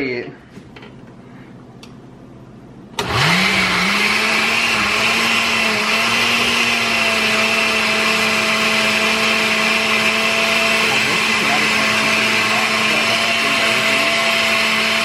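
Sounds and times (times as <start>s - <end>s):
electric blender running: 3.0s - 15.0s.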